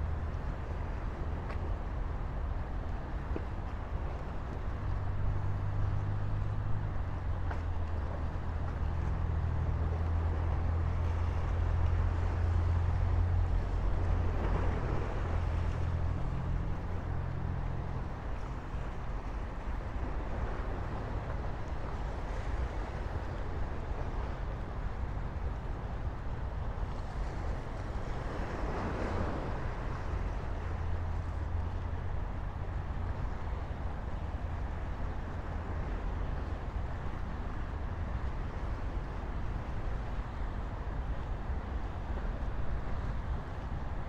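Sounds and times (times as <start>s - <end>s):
constant noise wash: 0.0s - 44.0s
engine droning: 0.0s - 44.0s.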